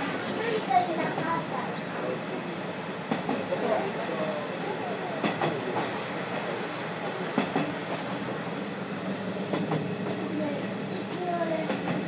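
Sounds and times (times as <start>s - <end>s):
train rolling rumble: 0.0s - 12.0s.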